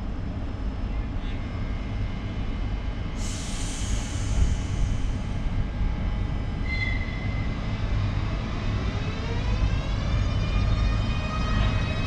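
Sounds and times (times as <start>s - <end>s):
locomotive traction whine: 0.0s - 12.0s
train rumbling: 0.0s - 12.0s.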